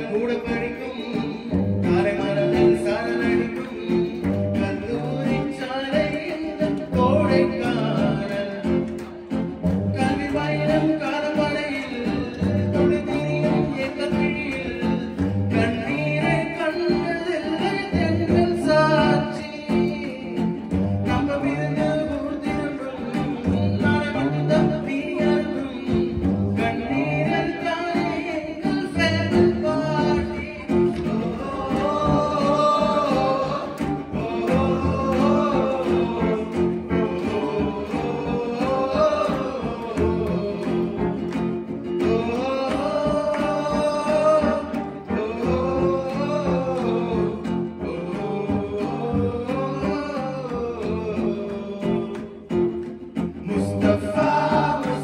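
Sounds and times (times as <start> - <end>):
guitar accompaniment: 0.0 - 55.0
person singing into microphone: 0.0 - 55.0.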